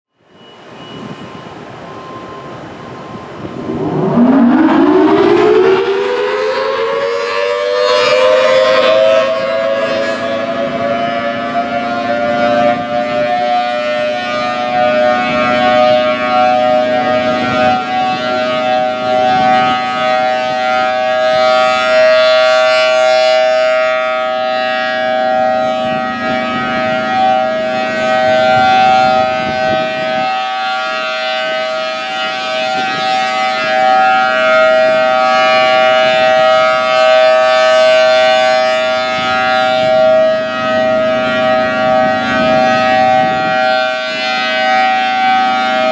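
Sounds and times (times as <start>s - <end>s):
rotating warning siren: 0.2s - 45.9s.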